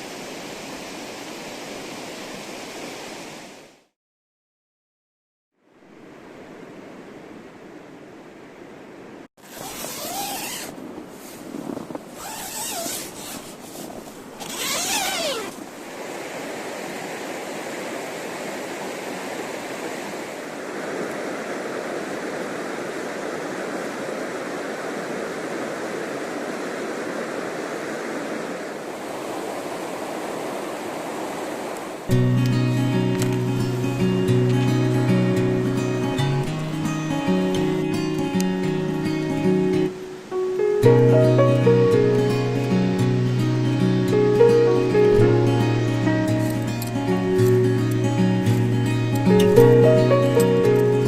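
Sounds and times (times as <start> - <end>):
flowing river water: 0.0 - 3.9, 5.6 - 51.0.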